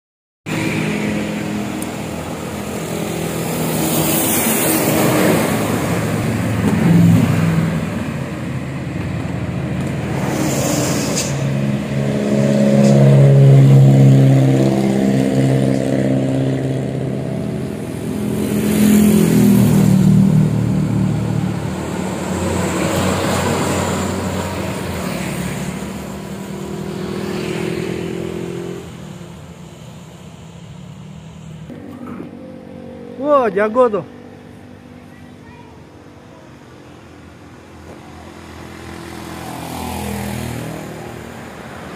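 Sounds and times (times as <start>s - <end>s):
bus diesel engine passing: 0.5s - 41.9s
vehicles going by: 0.5s - 41.9s.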